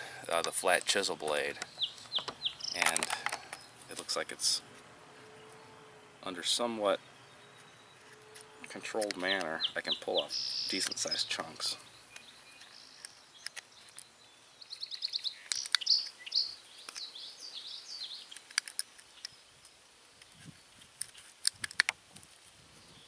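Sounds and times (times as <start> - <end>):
bird singing: 0.0 - 21.2.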